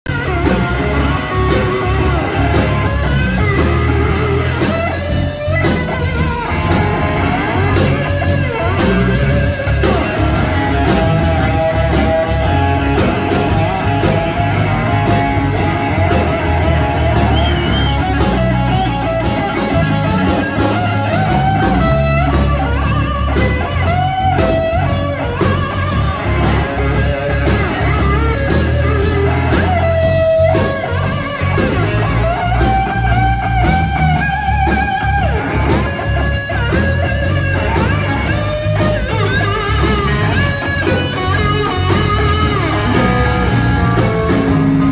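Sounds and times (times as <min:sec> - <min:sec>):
live blues-rock band: 0:00.1 - 0:44.9
resonator guitar lead lines: 0:00.1 - 0:44.9.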